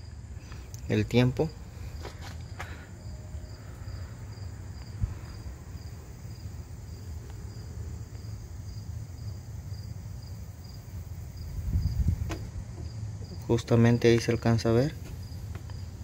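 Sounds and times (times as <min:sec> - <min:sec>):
insect chirping: 0:00.0 - 0:16.0
low background rumble: 0:00.0 - 0:16.0.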